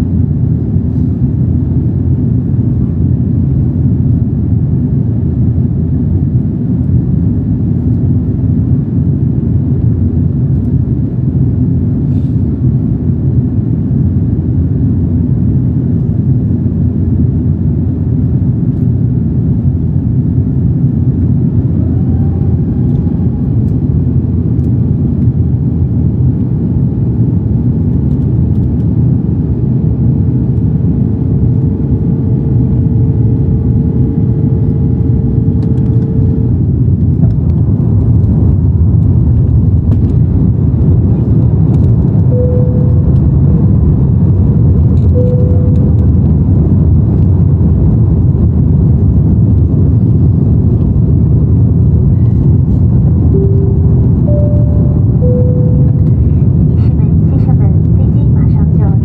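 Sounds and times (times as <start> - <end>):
airplane cabin engine rumble: 0.0 - 59.0
faint steady whine: 0.0 - 59.0.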